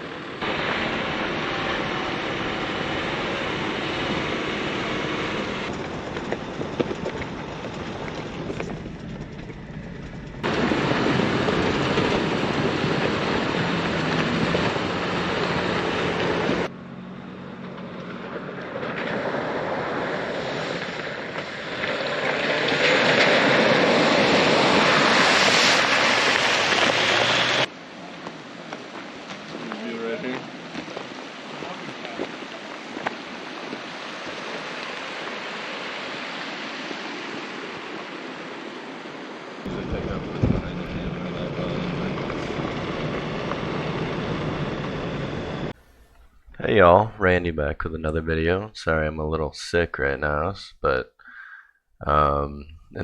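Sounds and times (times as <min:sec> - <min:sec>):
vehicle driving rush: 0:00.0 - 0:38.6, 0:39.6 - 0:49.0.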